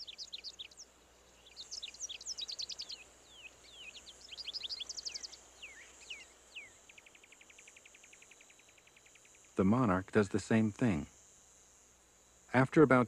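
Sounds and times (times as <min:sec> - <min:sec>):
cricket trilling: 0:00.0 - 0:13.0
small birds chirping: 0:00.0 - 0:13.0.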